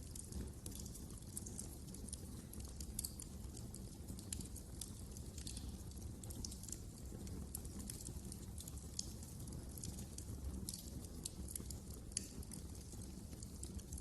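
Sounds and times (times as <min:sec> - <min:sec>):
low rumble of flames: 0:00.0 - 0:14.0
wood fire snaps and pops: 0:00.0 - 0:14.0.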